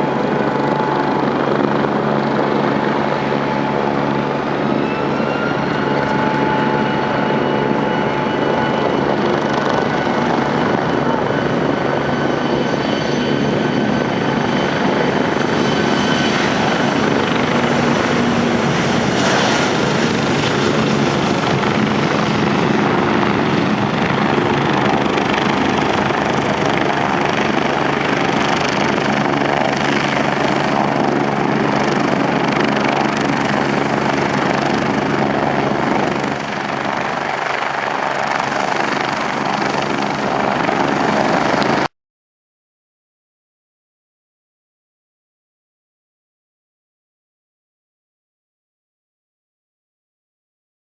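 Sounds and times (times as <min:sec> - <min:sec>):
jet engines roaring and whining: 0:00.0 - 0:41.9.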